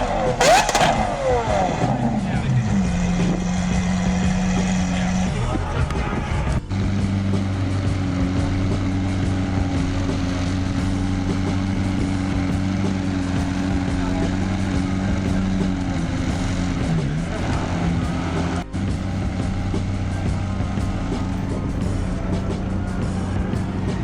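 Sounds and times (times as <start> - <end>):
car engine droning: 0.0 - 24.0.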